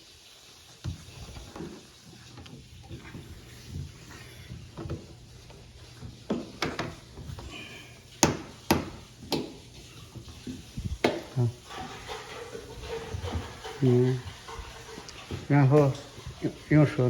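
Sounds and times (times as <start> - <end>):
rubbing of parts being handled: 0.7 - 17.0
sharp knocks and clunks: 0.8 - 7.5, 8.1 - 16.4.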